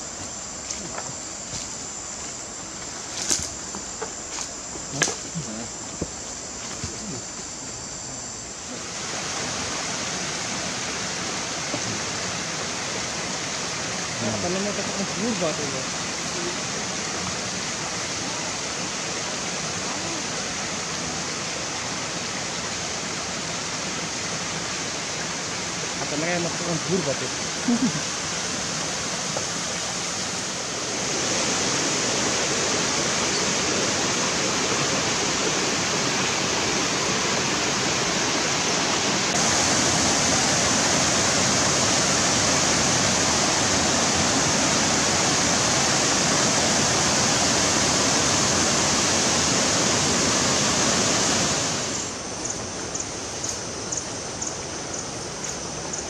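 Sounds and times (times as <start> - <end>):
rushing water: 8.8 - 56.0.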